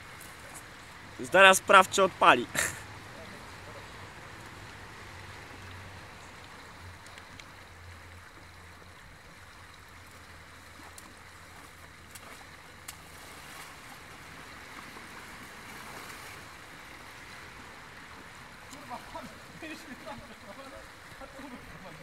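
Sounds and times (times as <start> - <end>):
shallow river rushing: 0.0 - 22.0
water sloshing as person wades: 3.4 - 22.0.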